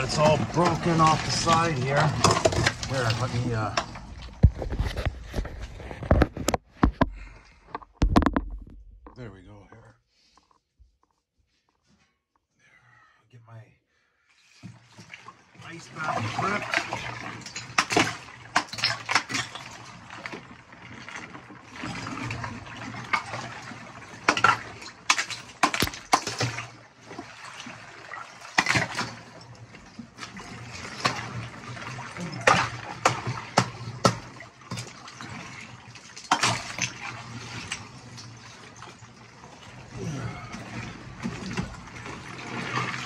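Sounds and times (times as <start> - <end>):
water sloshing: 0.0 - 9.2, 14.4 - 43.0.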